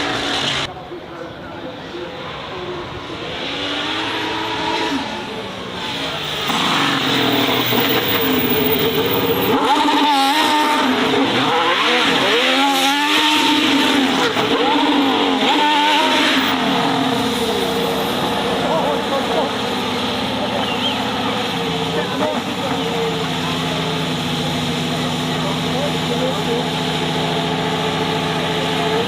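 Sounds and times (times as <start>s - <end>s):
race car engine revving: 0.0s - 0.7s, 2.2s - 29.0s.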